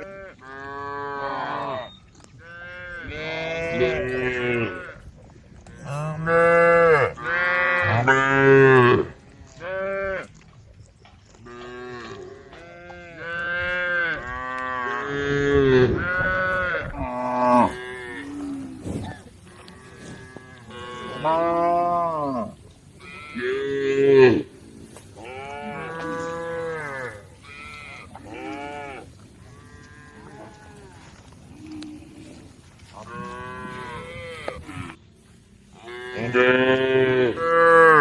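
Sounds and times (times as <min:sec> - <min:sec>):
cows mooing: 0:00.0 - 0:05.0, 0:05.7 - 0:10.3, 0:11.4 - 0:35.0, 0:35.8 - 0:38.0.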